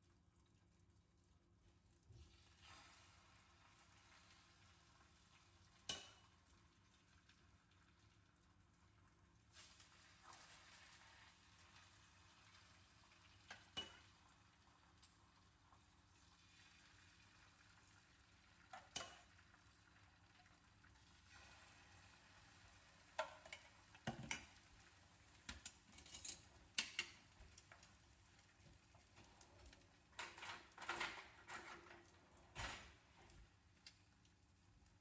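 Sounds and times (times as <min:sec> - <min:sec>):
food sizzling in a pan: 0:02.0 - 0:31.3.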